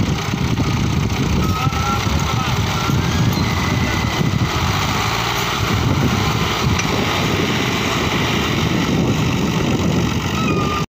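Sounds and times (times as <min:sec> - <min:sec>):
tractor diesel engines running: 0:00.0 - 0:10.9.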